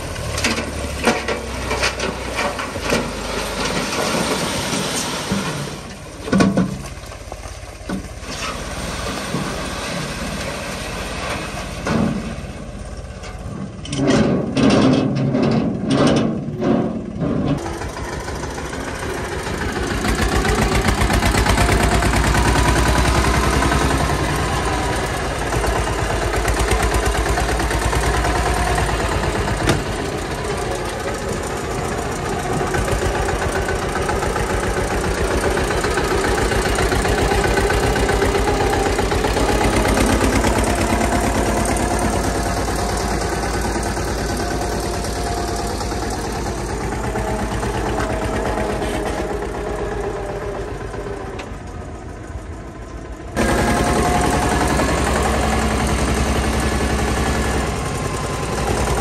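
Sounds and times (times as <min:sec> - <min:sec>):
tractor diesel engine chugging: 0:00.0 - 0:59.0.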